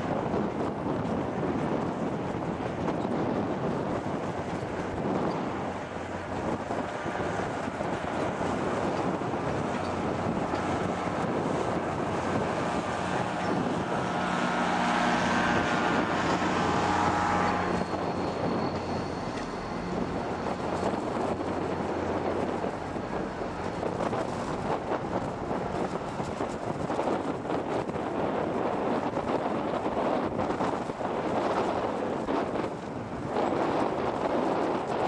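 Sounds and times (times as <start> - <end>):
diesel locomotive engine hum: 0.0 - 35.0
wind on microphone: 0.0 - 35.0.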